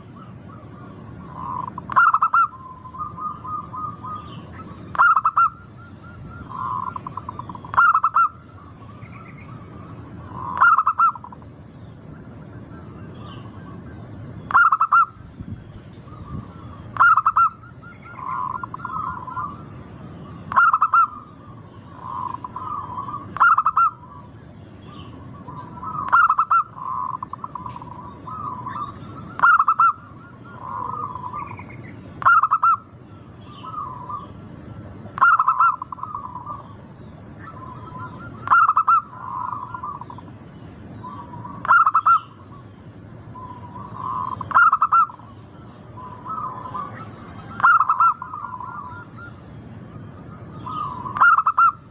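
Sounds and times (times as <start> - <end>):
dove cooing: 0.0 - 11.6, 12.5 - 15.2, 15.9 - 40.4, 41.0 - 51.9
low background hiss: 0.0 - 51.9.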